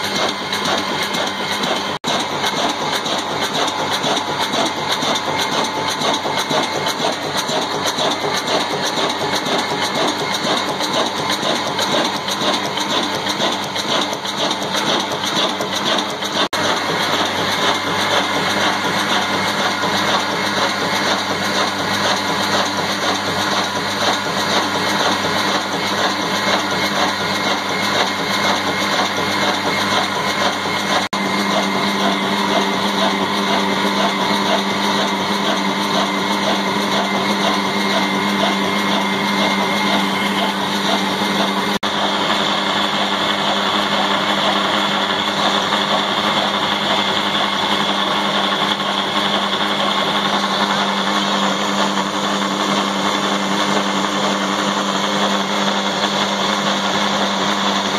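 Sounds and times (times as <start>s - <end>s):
diesel engine running: 0.0s - 57.9s
flour mill grinding: 0.0s - 57.9s.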